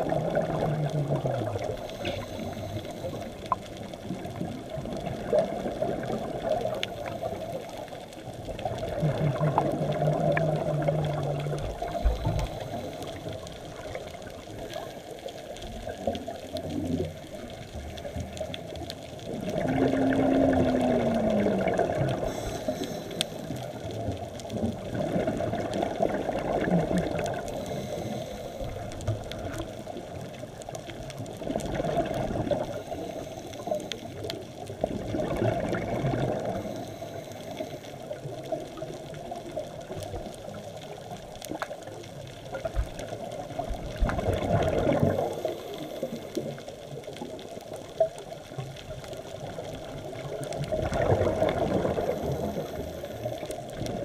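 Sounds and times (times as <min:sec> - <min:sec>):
underwater hiss: 0:00.0 - 0:30.2, 0:31.2 - 0:41.7, 0:43.0 - 0:47.2, 0:49.4 - 0:54.0
air bubbles rumbling underwater: 0:00.0 - 0:33.0, 0:33.6 - 0:36.8, 0:38.0 - 0:54.0
faint clicks: 0:00.0 - 0:54.0.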